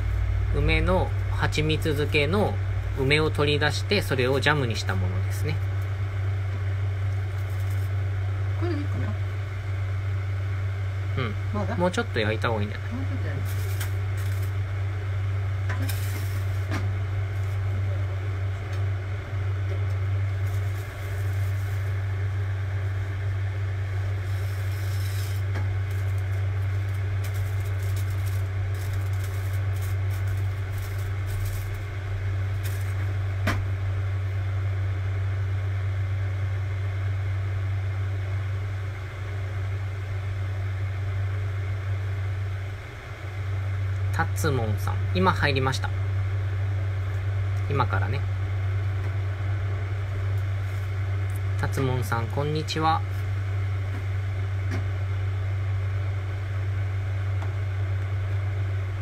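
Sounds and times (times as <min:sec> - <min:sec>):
gas stove hum and hiss: 0:00.0 - 0:59.0.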